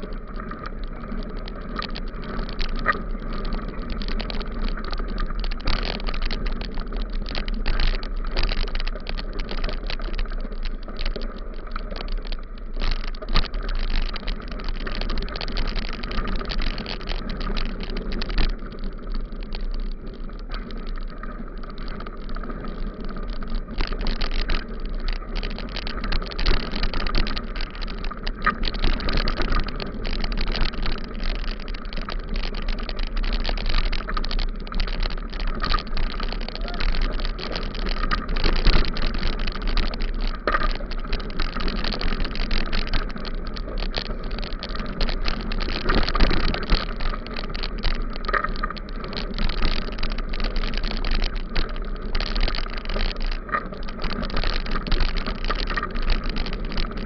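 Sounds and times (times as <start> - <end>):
bicycle tyres crunching on gravel: 0.0 - 57.0.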